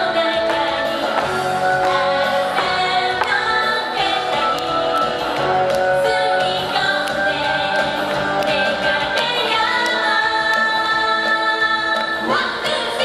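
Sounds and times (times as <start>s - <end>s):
pop instrumental backing with beat: 0.0s - 13.0s
woman singing into a microphone: 0.0s - 13.0s.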